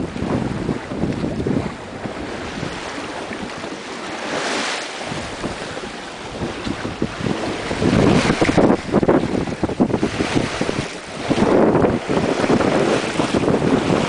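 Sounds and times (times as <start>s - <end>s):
sea water rushing along hull: 0.0s - 14.0s
wind buffeting microphone: 0.0s - 14.0s.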